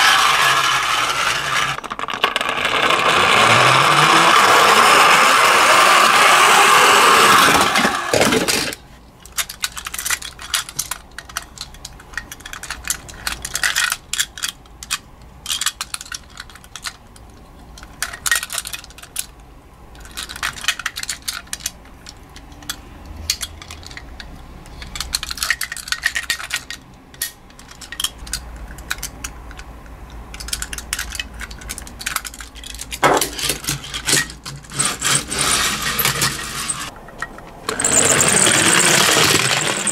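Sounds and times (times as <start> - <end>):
metal toys clinking together: 6.8 - 19.3, 20.0 - 39.9.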